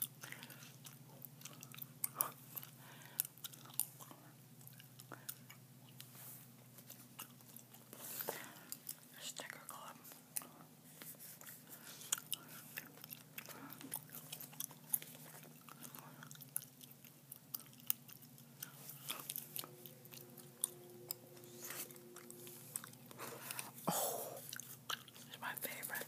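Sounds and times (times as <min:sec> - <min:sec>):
gum chewing: 0:00.0 - 0:26.0.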